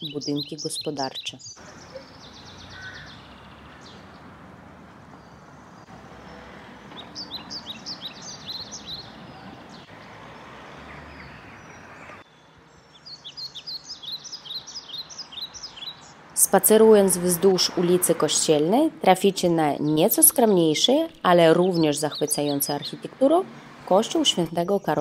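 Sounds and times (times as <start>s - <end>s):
small birds chirping: 0.0s - 25.0s
steady outdoor background hum: 0.0s - 25.0s.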